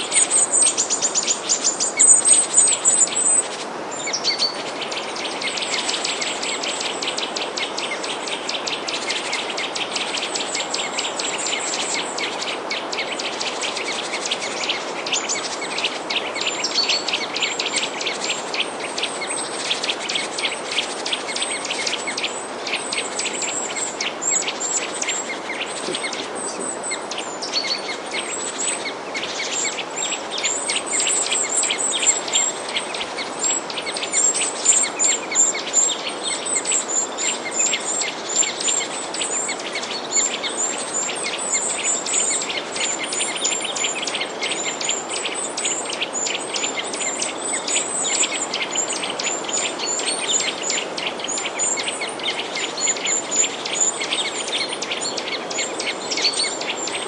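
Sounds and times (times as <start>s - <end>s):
small birds chirping: 0.0s - 57.0s
steady background hiss: 0.0s - 57.0s.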